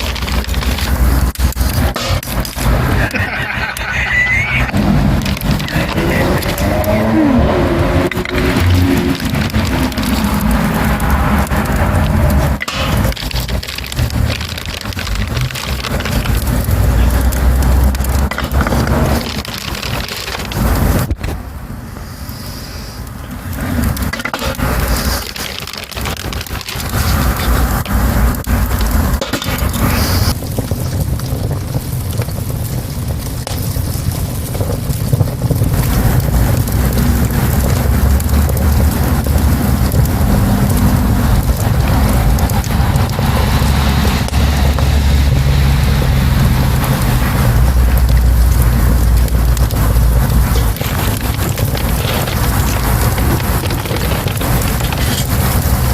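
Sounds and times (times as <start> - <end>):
low rumble: 0.0 - 22.0, 26.8 - 55.9
wood crackling and popping in stove: 0.0 - 55.9.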